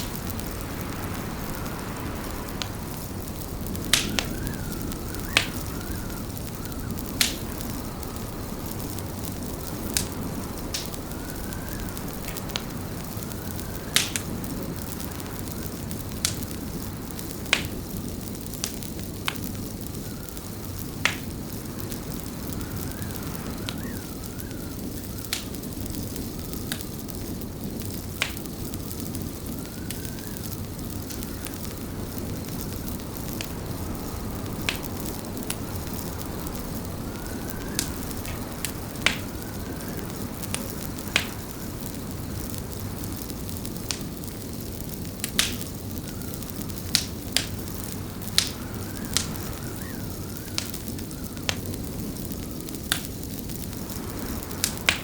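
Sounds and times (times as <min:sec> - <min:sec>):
wind whistling against windows: 0:00.0 - 0:55.0
wood fire crackling: 0:00.0 - 0:55.0.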